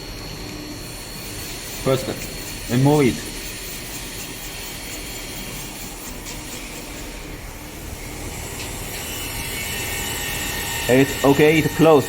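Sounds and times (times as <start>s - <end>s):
grinder whirring: 0.0s - 12.0s.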